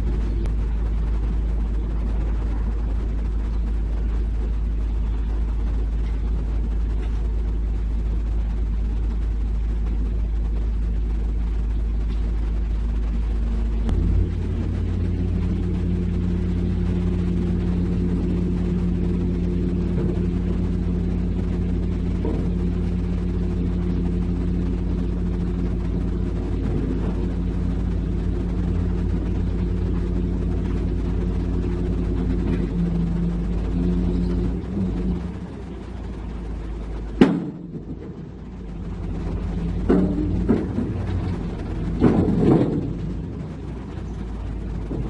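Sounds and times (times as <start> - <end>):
heavy diesel engine droning: 0.0 - 45.0.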